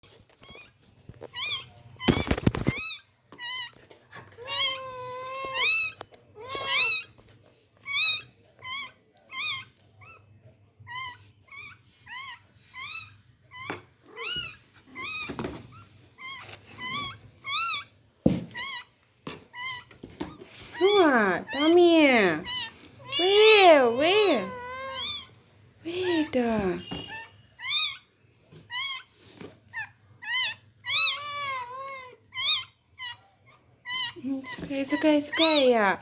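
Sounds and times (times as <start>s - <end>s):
newborn animal crying: 0.4s - 7.2s, 7.8s - 20.0s, 20.8s - 25.4s, 26.0s - 29.1s, 29.7s - 36.0s.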